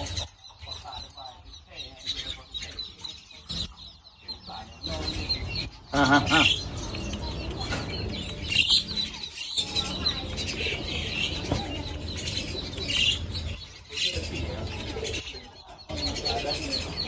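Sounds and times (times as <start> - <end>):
high chirping calls: 0.0 - 17.0.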